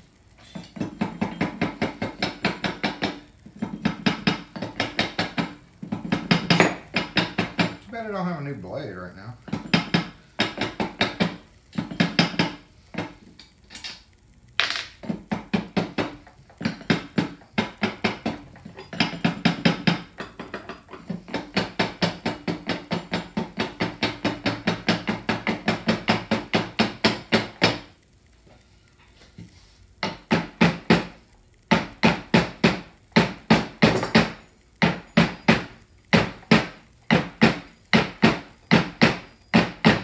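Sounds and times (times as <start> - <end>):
rapid metallic tapping: 0.0 - 8.5, 9.3 - 13.5, 14.5 - 28.1, 30.0 - 40.0.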